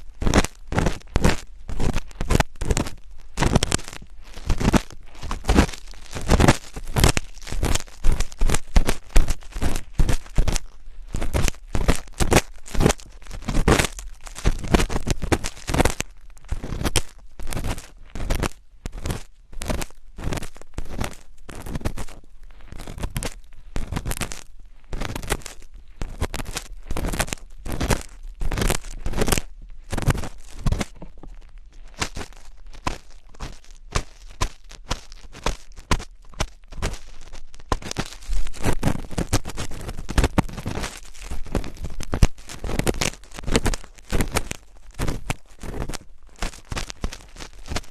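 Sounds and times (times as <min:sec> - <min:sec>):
scratching on microphone: 0:00.0 - 0:47.9.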